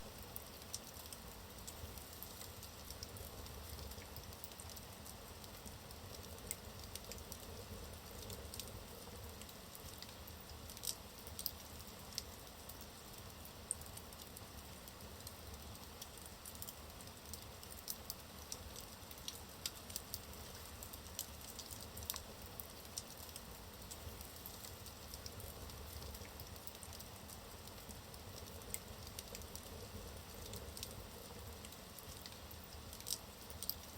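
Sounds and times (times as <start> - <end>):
fire crackling and popping: 0.0 - 33.9
soft steady hiss: 0.0 - 33.9.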